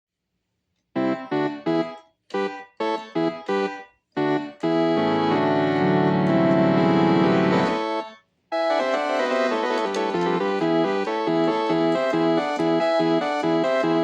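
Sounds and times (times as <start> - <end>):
synthesizer keyboard chords: 1.0 - 14.0.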